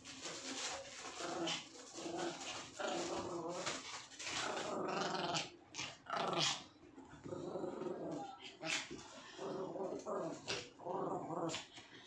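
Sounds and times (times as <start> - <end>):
small dogs growling and snarling: 1.0 - 11.8.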